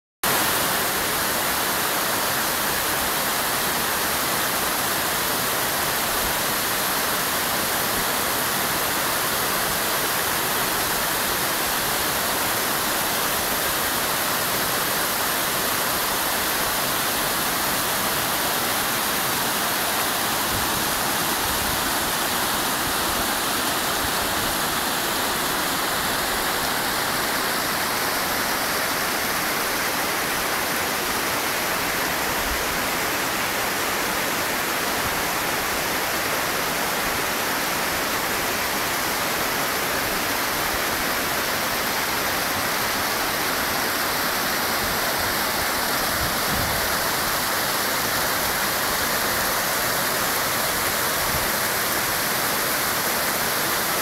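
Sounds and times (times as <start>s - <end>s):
waterfall rushing: 0.2s - 54.0s.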